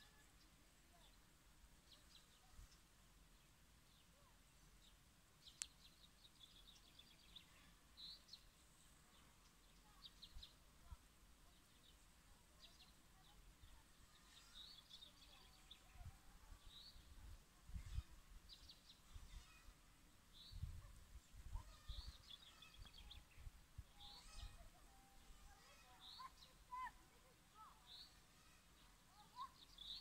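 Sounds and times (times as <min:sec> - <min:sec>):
faint bird chirps: 0:01.8 - 0:30.0.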